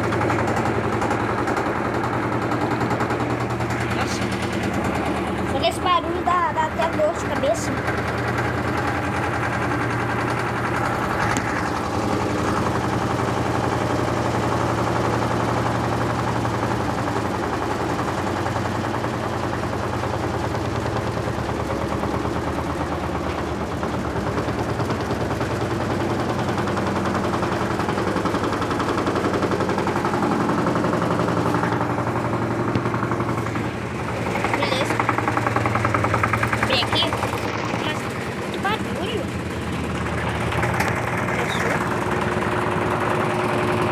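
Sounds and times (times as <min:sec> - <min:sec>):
washing machine motor hum: 0:00.0 - 0:43.9
washing machine rattling knock: 0:00.0 - 0:43.9.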